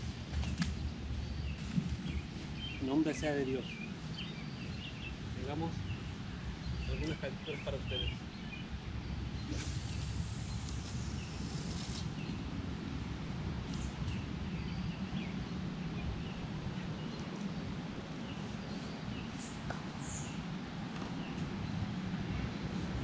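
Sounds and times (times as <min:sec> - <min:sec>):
wind on microphone: 0:00.0 - 0:23.0
small birds chirping: 0:00.2 - 0:12.6, 0:13.5 - 0:23.0.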